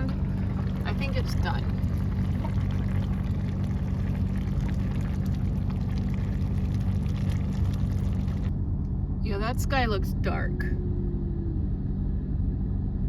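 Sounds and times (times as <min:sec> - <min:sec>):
car engine idling: 0:00.0 - 0:13.0
climate fan blowing: 0:00.0 - 0:13.0.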